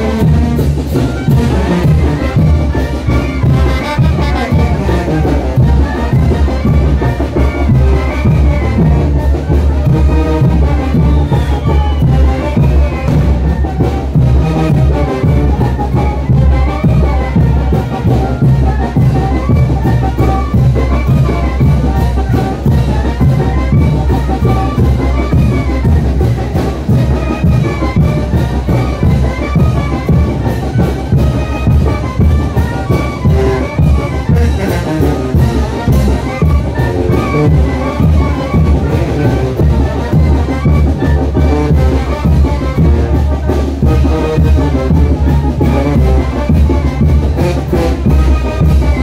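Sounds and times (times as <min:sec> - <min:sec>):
brass band playing: 0:00.0 - 0:49.0
steady drumbeat: 0:00.0 - 0:49.0.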